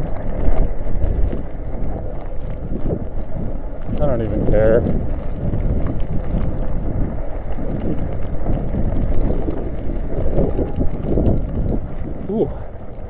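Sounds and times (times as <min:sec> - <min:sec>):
tyres rolling through snow: 0:00.0 - 0:13.0
wind rushing over microphone: 0:00.0 - 0:13.0.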